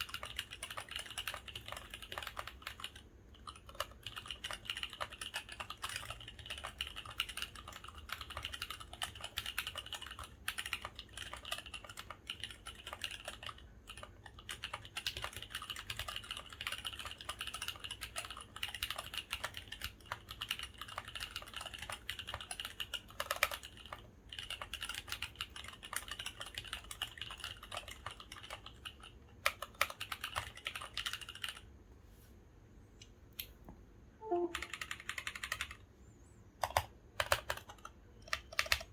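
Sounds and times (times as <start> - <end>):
mechanical keyboard typing: 0.0 - 31.7, 34.2 - 35.8, 36.6 - 38.9.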